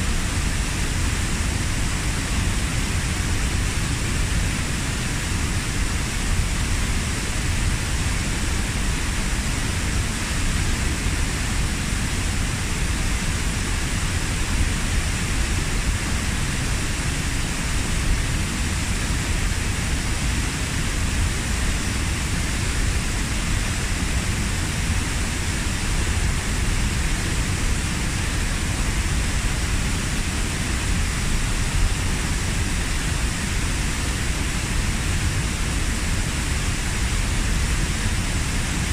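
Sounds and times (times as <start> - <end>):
waterfall rushing into pool: 0.0 - 38.9.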